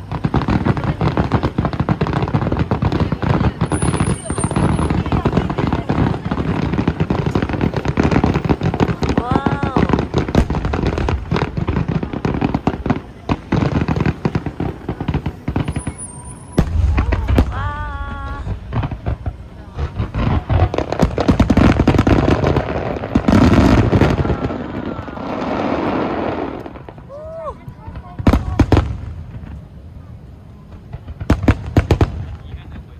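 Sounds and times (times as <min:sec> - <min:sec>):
fireworks booms: 0:00.0 - 0:32.9
fireworks crackling and popping: 0:00.0 - 0:32.9.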